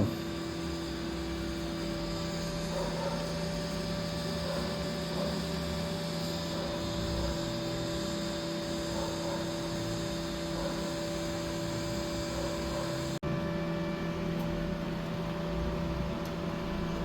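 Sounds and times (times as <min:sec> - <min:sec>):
welding equipment humming: 0:00.0 - 0:17.0.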